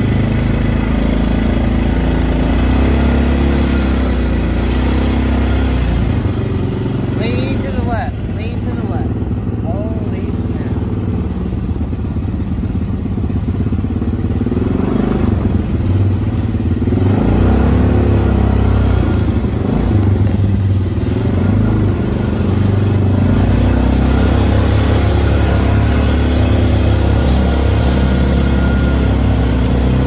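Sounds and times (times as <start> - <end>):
off-road vehicle engine: 0.0 - 30.0.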